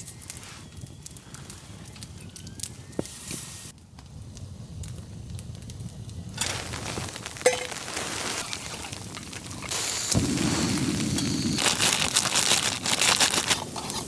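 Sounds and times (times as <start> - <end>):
even hiss: 0.0 - 3.8, 6.2 - 14.0
campfire crackling: 0.0 - 14.0
fire popping and snapping: 0.0 - 14.0.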